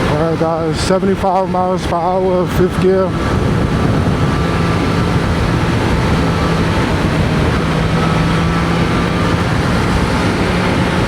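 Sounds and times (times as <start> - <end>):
motorcycle engine cruising: 0.0 - 11.0
wind rush in helmet: 0.0 - 11.0.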